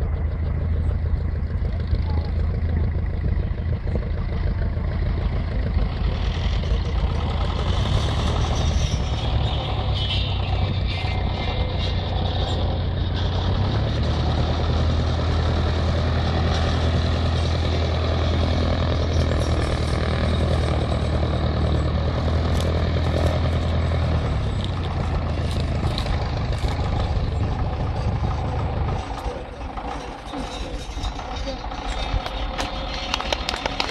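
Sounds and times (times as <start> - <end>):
biplane engine droning: 0.0 - 33.9.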